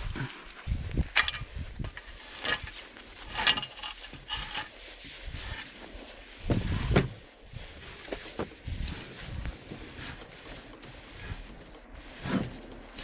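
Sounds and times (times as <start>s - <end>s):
carcass scraping on ladder ramp: 1.2s - 13.0s.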